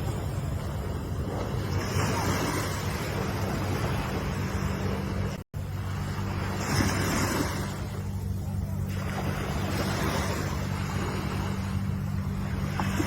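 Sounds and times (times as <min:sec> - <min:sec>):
ocean waves washing in: 0:00.0 - 0:13.0
steady low hum: 0:00.0 - 0:13.0.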